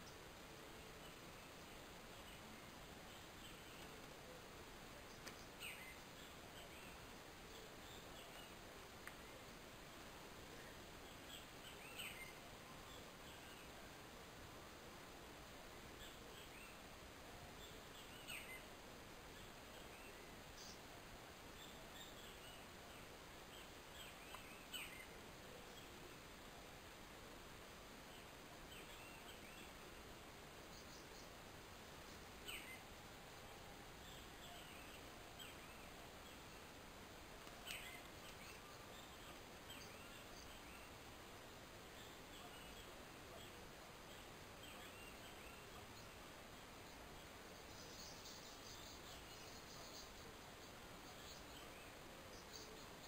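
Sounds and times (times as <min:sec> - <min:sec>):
birds chirping faintly: 0:00.0 - 0:53.0
faint steady hiss: 0:00.0 - 0:53.0.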